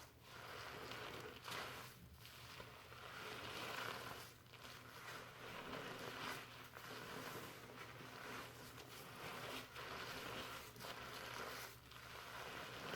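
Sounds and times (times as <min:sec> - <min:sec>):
shampoo lather rubbed in hair: 0:00.0 - 0:12.9.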